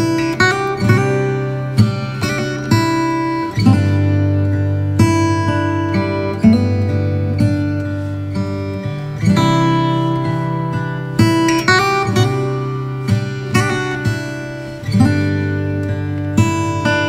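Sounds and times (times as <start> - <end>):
instrumental music with sustained chords: 0.0 - 17.0.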